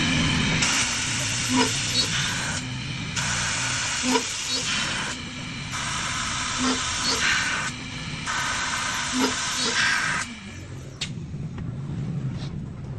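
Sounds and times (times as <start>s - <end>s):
drilling machine hissing: 0.0s - 11.0s.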